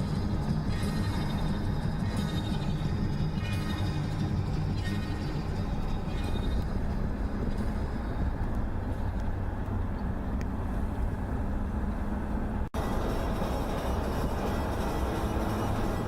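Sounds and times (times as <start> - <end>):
car driving road and engine rumble: 0.0 - 16.0.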